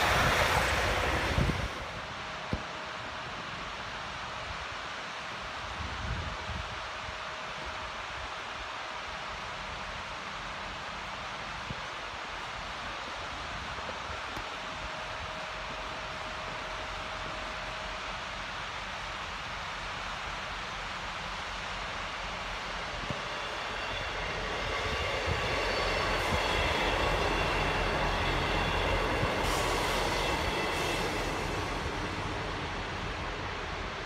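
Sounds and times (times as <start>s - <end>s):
diesel train passing: 0.0s - 34.0s.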